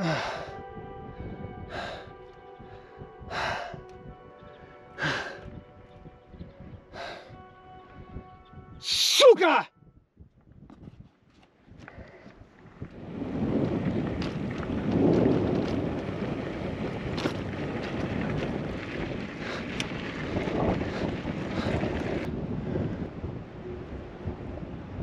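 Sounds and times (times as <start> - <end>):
wind buffeting microphone: 0.0 - 8.8, 9.7 - 25.0.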